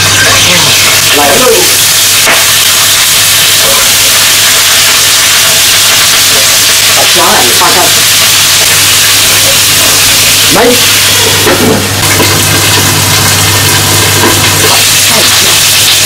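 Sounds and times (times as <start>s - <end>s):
peppers sizzling in hot oil: 0.0s - 16.0s.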